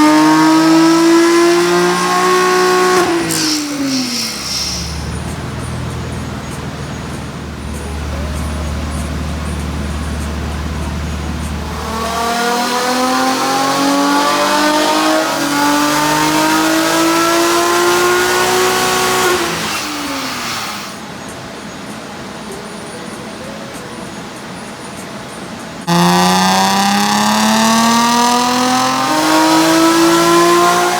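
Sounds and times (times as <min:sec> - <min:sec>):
car engine revving on dyno: 0:00.0 - 0:21.0, 0:25.8 - 0:30.9.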